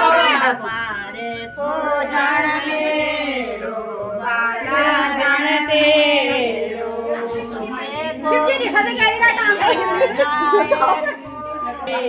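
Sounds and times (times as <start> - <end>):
women singing devotional song: 0.0 - 12.0.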